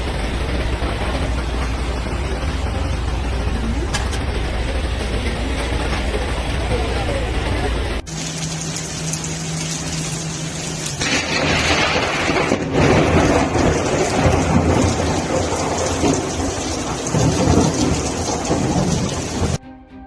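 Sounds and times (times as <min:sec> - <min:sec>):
heavy rain pouring: 0:00.0 - 0:19.6
thunder rumbling: 0:00.0 - 0:19.6.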